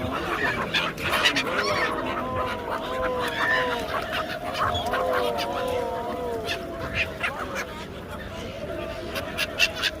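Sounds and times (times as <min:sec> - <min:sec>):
water birds harsh calls: 0:00.0 - 0:10.0.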